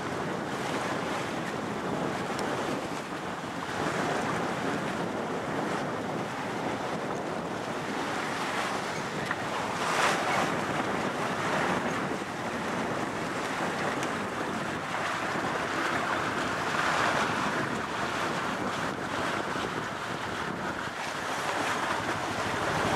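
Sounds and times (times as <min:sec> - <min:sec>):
sea water rushing along hull: 0:00.0 - 0:22.9
wind buffeting microphone: 0:00.0 - 0:22.9.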